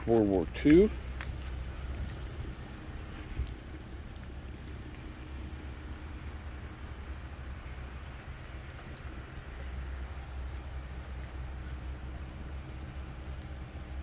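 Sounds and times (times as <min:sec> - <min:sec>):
light rain on wet pavement: 0:00.0 - 0:14.0
low rumble: 0:00.0 - 0:14.0.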